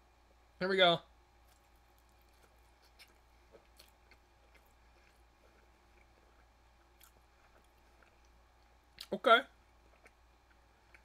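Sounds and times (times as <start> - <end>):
low steady hum: 0.0 - 11.0
chewing food: 1.4 - 11.0.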